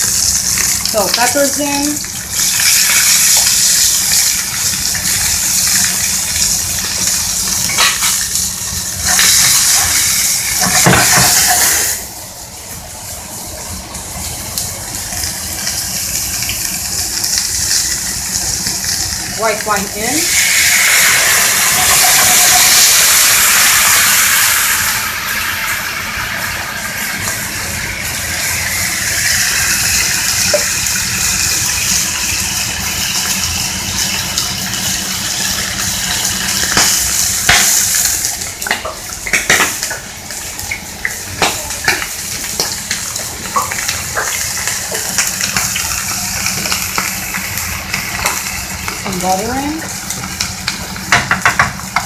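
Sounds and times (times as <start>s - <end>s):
sizzling and bubbling in pan: 0.0s - 52.0s
wine hissing in hot pan: 0.0s - 52.0s.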